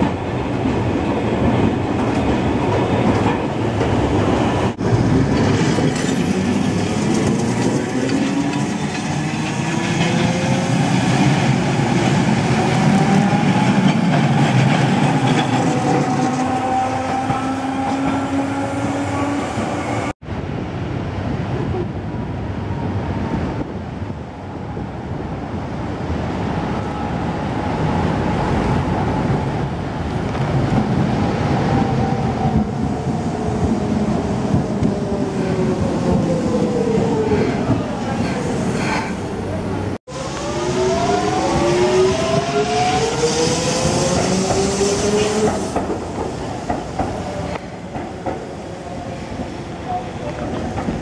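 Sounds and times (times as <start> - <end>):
tram wheels rumbling on rails: 0.0 - 51.0.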